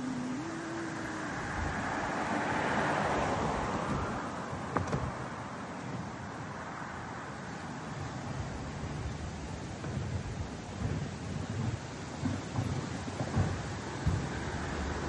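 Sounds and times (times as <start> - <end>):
car passing by: 0.0 - 15.0.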